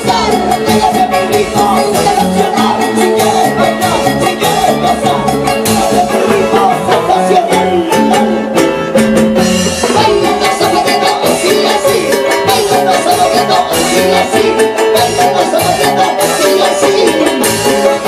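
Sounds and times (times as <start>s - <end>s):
bass: 0.0s - 18.0s
live band playing folk music: 0.0s - 18.0s.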